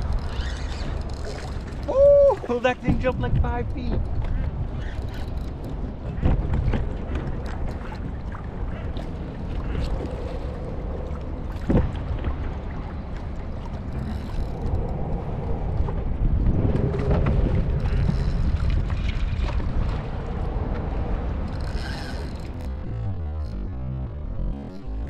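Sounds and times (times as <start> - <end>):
water and hull noises: 0.0 - 25.0
wind rumbling on microphone: 0.0 - 25.0.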